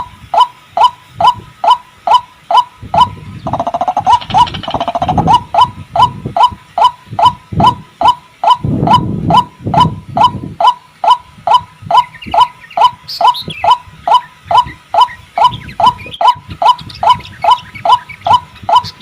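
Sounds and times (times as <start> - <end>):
high twittering: 0.0 - 19.0
waterhen calling: 0.0 - 19.0.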